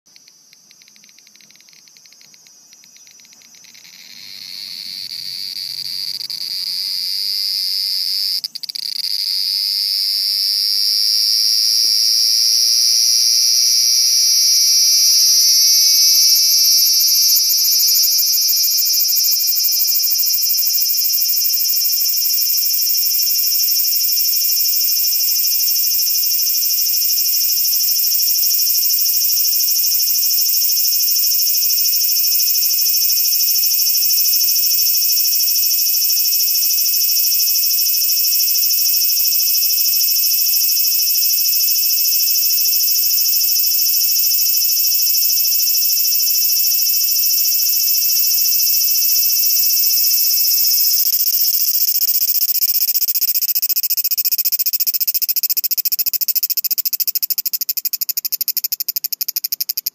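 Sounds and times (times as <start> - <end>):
cicada buzzing: 0.1 - 59.9.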